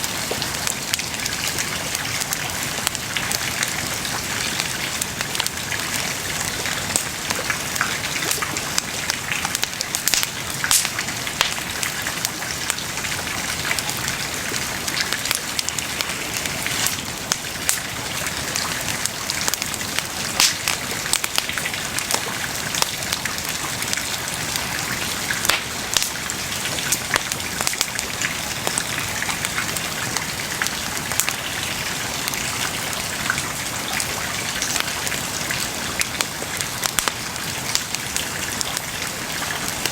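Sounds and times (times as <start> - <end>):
bonfire flames hissing: 0.0 - 39.9
fire crackles and pops: 0.0 - 39.9.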